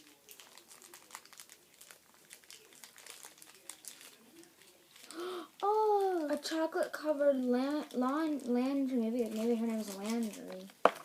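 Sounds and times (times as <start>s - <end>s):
plastic packaging crinkling: 0.0s - 6.6s, 7.3s - 11.0s.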